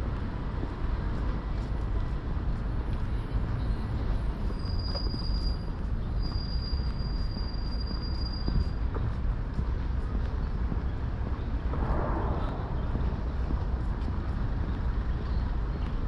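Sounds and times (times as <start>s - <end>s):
city traffic rumbling: 0.0s - 16.0s.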